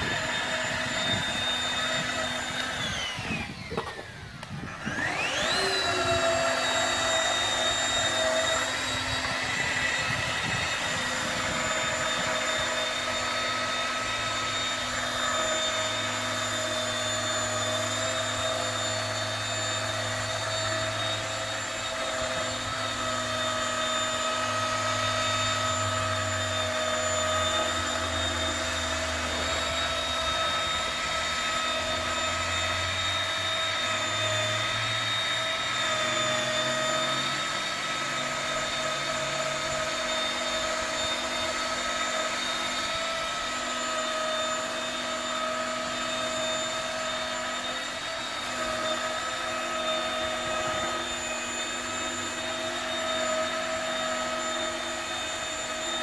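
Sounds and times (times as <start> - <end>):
rotary polisher whine: 0.0 - 56.0.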